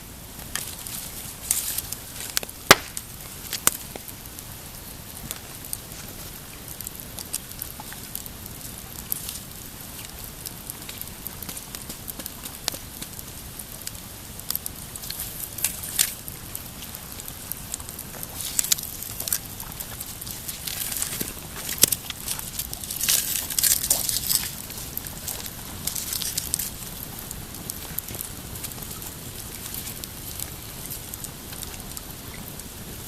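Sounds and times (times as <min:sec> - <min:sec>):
campfire crackling: 0:00.0 - 0:33.0
sharp pops of fire: 0:00.3 - 0:32.7.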